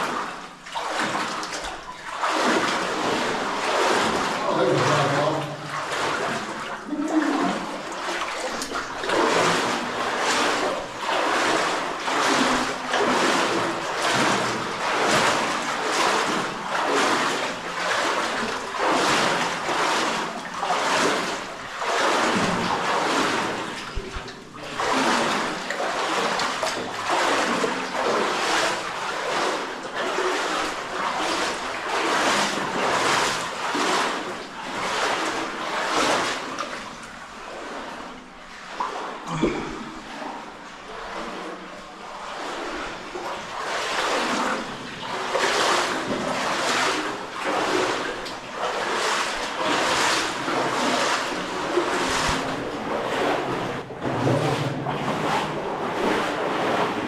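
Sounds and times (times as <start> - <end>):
footsteps wading through water: 0.0 - 57.0.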